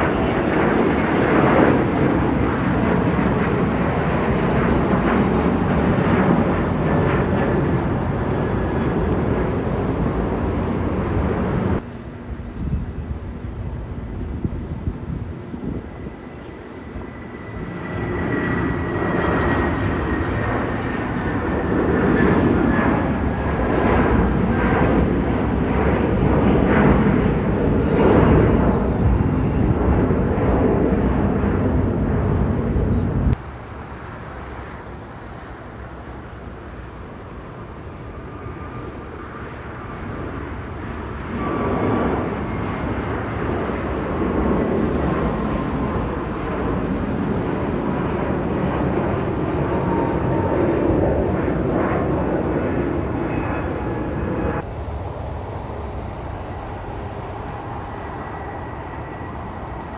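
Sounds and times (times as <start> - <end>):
jet airliner engines rushing: 0.0 - 59.9.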